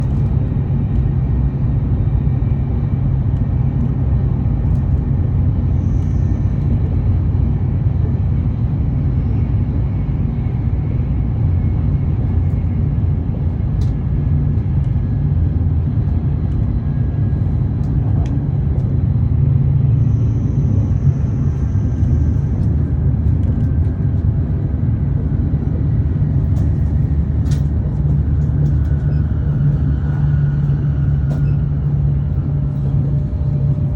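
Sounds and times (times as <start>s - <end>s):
train rumbling at speed: 0.0s - 33.9s.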